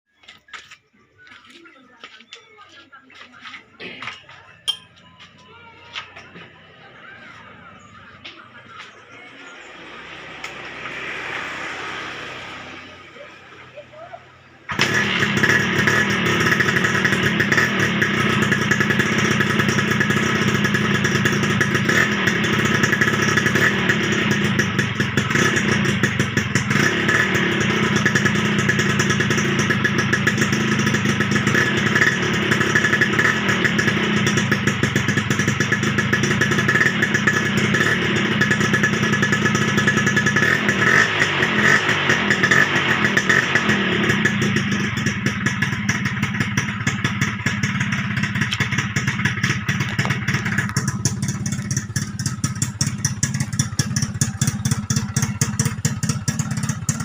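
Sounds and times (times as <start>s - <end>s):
two-stroke motorcycle engine running: 4.0s - 57.0s.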